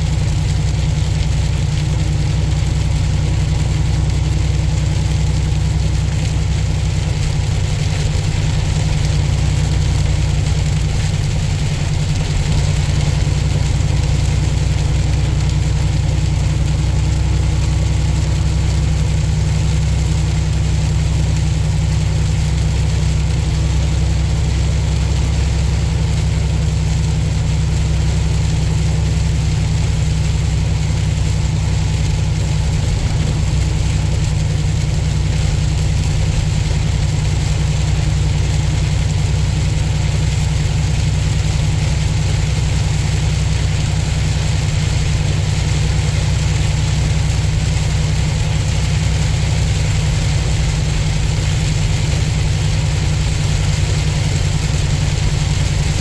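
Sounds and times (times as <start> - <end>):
diesel engine droning: 0.0 - 56.0
road noise hiss: 0.0 - 56.0.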